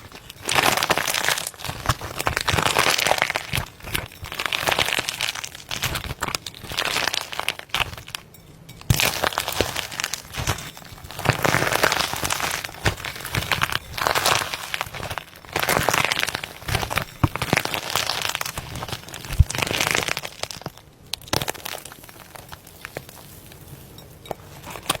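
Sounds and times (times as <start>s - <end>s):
slime crackling and popping: 0.0s - 25.0s.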